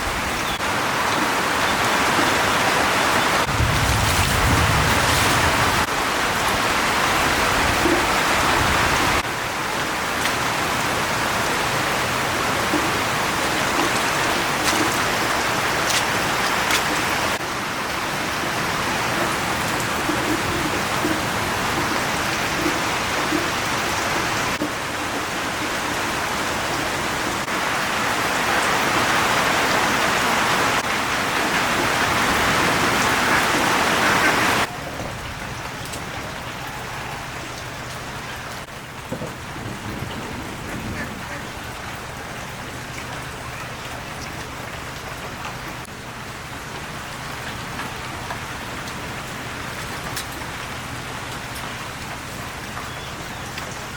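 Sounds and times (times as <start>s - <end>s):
heavy rain: 0.0s - 53.9s.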